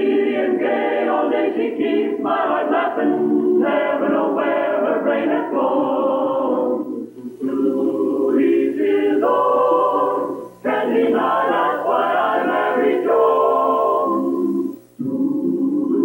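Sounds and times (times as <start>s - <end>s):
vocal chorus singing: 0.0s - 16.0s.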